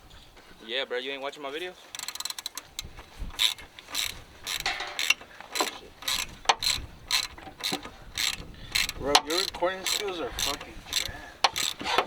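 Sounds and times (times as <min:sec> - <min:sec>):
ratchet wrench clicking: 0:01.9 - 0:12.0.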